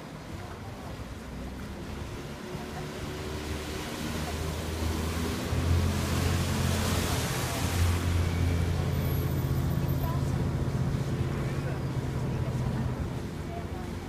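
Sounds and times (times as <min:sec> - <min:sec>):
churning propeller wash: 0:00.0 - 0:14.0
ship engine humming: 0:00.0 - 0:14.0.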